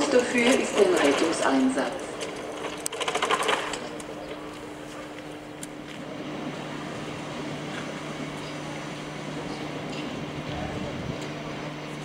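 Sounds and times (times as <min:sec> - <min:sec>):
distant diesel locomotive droning: 0:00.0 - 0:12.0.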